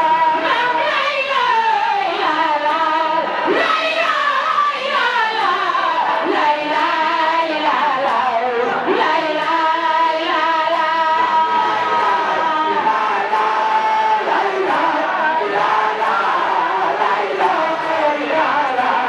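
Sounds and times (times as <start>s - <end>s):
woman singing devotional chant: 0.0s - 19.0s.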